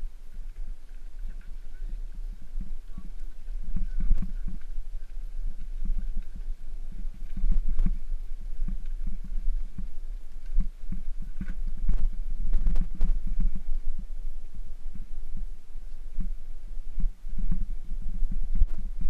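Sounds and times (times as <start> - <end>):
bicycle riding over gravel: 0.0 - 19.0
wheels knocking and rattling: 0.0 - 19.0.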